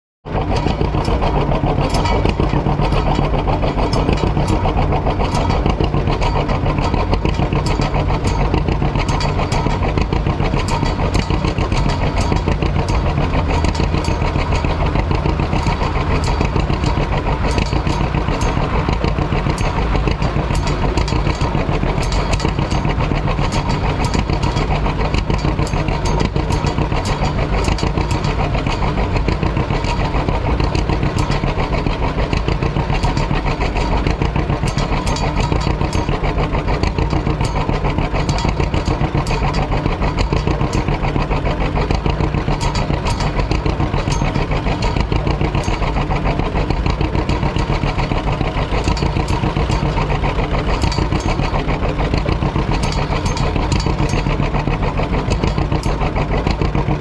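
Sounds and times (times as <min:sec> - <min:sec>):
diesel engine running: 0:00.2 - 0:57.0.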